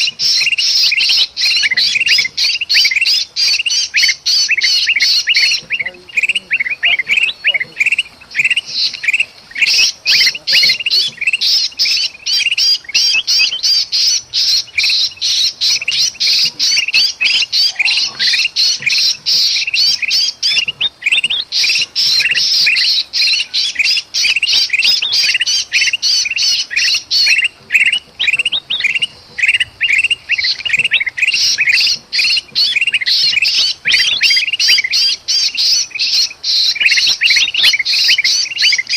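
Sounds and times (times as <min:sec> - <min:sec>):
bulbuls harsh alarm chatter: 0:00.0 - 0:38.9.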